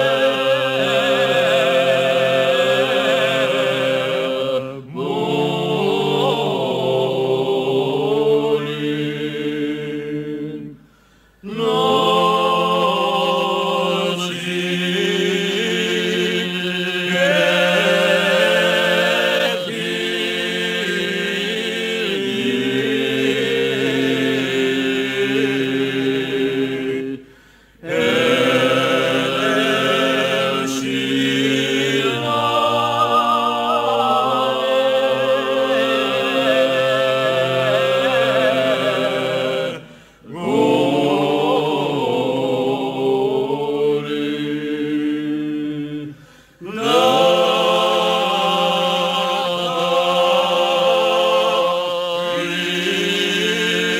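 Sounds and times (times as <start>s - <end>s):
a cappella choir singing: 0.0s - 53.9s.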